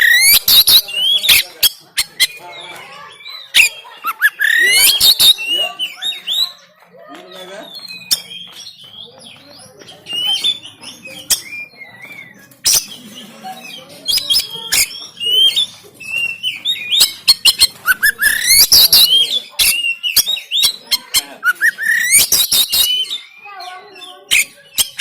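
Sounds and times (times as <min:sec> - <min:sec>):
magpie-robin singing: 0:00.0 - 0:25.0.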